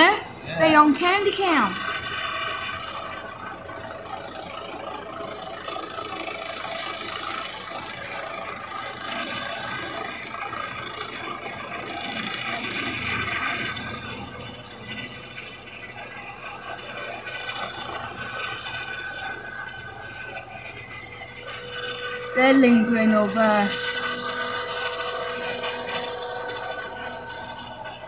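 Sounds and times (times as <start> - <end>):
helicopter rotor and turbine drone: 0.0 - 28.0
turbine whine: 0.0 - 28.0.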